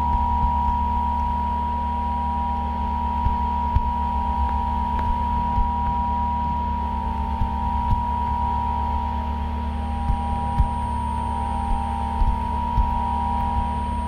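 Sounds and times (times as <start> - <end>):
low hum: 0.0 - 14.0
two high electronic tones: 0.0 - 14.0.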